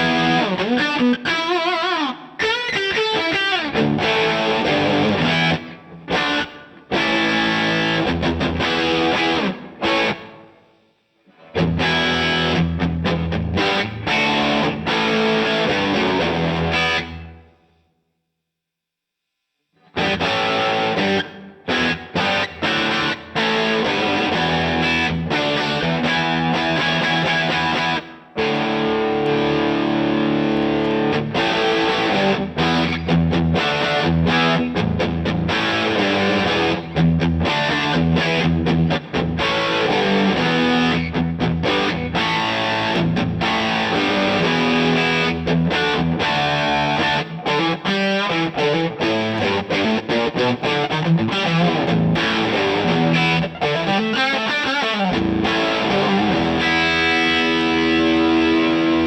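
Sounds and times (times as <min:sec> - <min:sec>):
distorted electric guitar: 0:00.0 - 0:17.7, 0:19.8 - 0:59.0.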